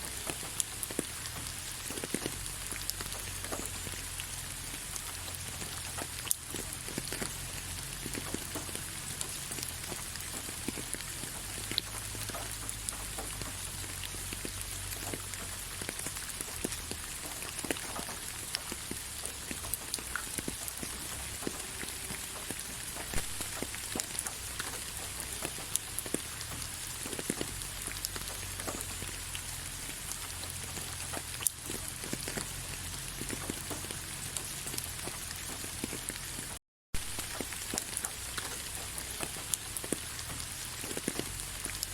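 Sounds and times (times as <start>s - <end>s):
gentle rain pattering: 0.0s - 41.9s.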